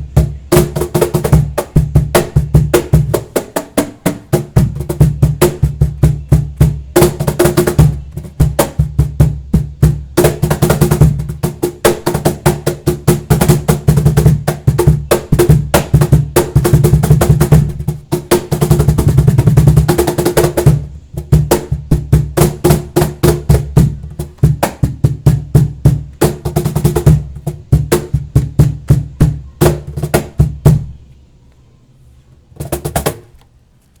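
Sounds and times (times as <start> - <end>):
cajon played by hand: 0.0 - 31.1, 32.6 - 33.5.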